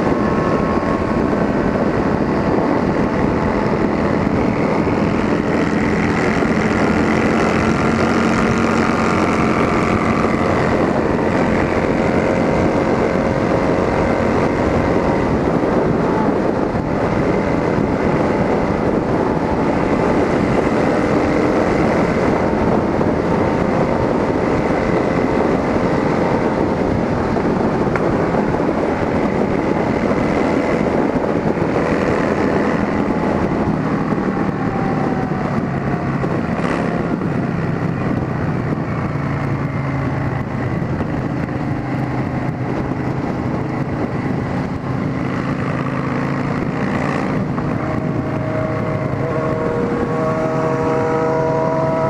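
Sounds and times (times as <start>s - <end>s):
motorcycle exhaust running: 0.0s - 52.0s
wind noise on microphone: 0.0s - 52.0s.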